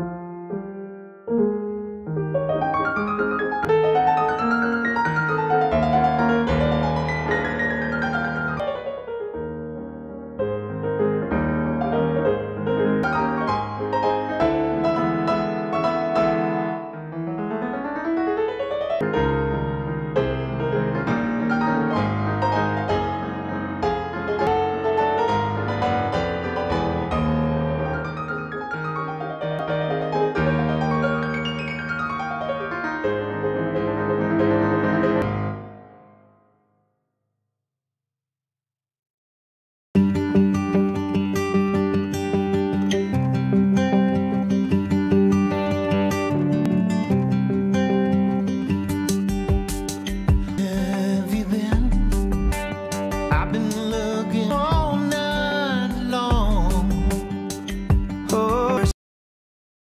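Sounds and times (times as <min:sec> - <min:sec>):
piano music: 0:00.0 - 0:36.5, 0:40.0 - 0:59.0.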